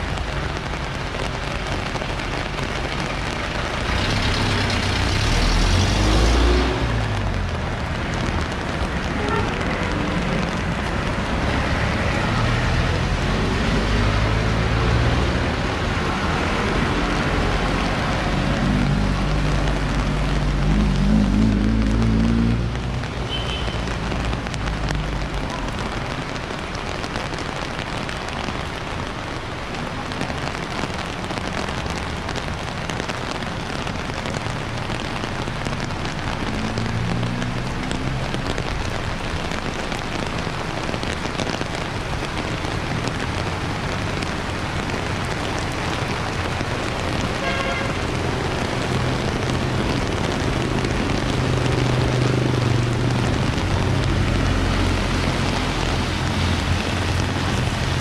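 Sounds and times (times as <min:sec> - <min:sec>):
rain falling on street: 0:00.0 - 0:58.0
vehicle passing on wet road: 0:00.0 - 0:58.0.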